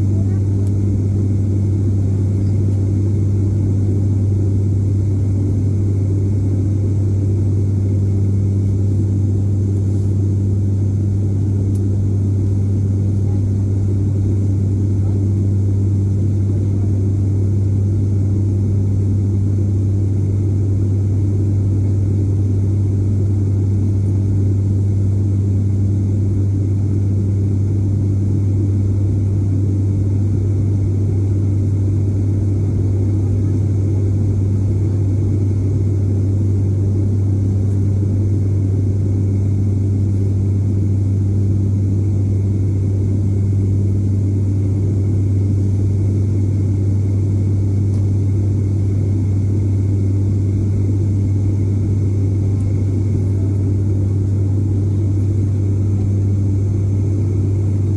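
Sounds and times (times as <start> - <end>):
propeller engines droning: 0.0 - 57.9.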